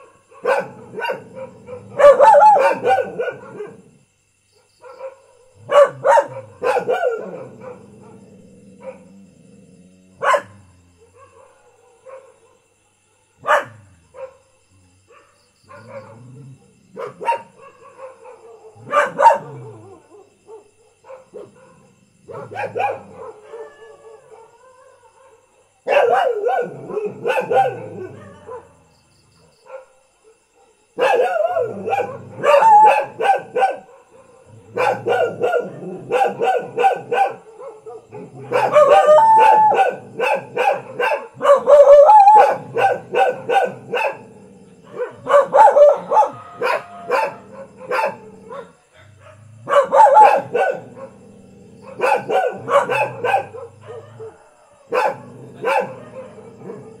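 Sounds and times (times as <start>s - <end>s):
dogs barking: 0.0s - 3.9s, 4.8s - 9.2s, 10.2s - 12.6s, 13.4s - 14.4s, 15.1s - 28.8s, 29.6s - 57.0s.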